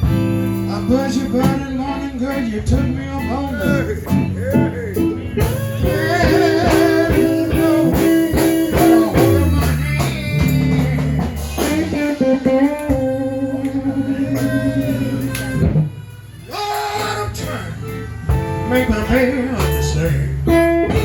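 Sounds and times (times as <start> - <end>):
bass: 0.0 - 21.0
electric guitar bends: 0.0 - 21.0
steady drums: 0.0 - 21.0.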